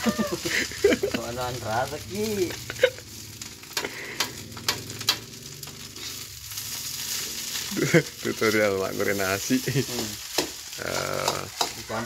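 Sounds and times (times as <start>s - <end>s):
rice sizzling in a wok: 0.0s - 12.0s.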